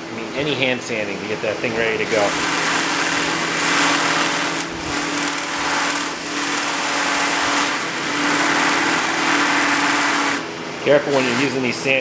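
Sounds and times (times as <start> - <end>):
sanding drum sanding wood: 2.0 - 12.0.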